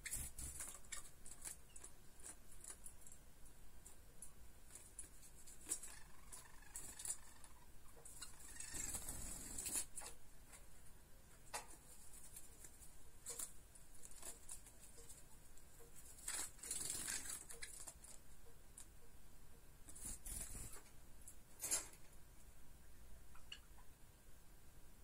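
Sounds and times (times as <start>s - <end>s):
birds tapping and scratching: 0.0s - 19.2s, 19.8s - 22.2s.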